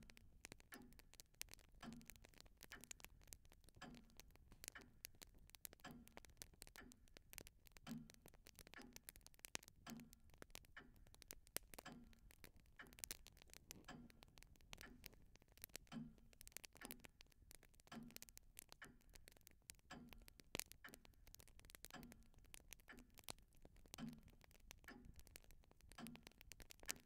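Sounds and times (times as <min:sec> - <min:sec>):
clock ticking: 0:00.0 - 0:27.0
light crackles: 0:00.0 - 0:27.0.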